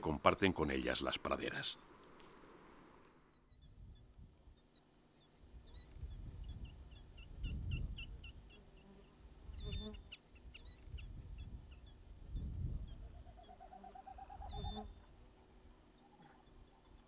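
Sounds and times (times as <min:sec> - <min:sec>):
killdeer calling: 0:02.7 - 0:17.0.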